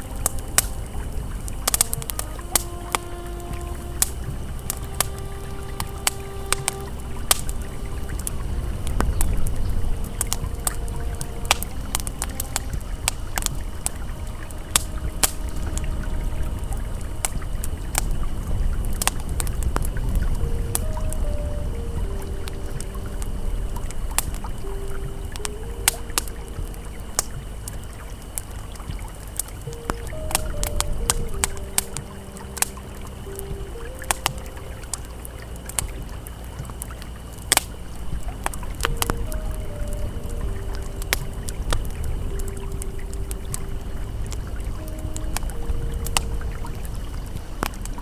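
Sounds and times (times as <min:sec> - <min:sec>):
campfire crackling: 0:00.0 - 0:48.0
flowing river: 0:00.0 - 0:48.0
soft ambient tones: 0:00.0 - 0:48.0.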